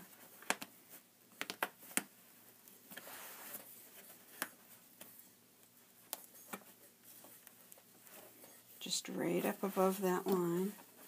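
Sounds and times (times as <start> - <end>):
soft rustle: 0.0 - 11.0.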